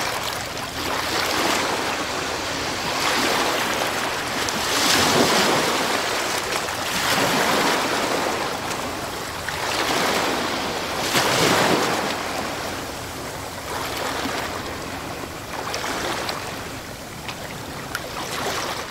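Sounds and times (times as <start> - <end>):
sea surf washing onto beach: 0.0 - 18.9.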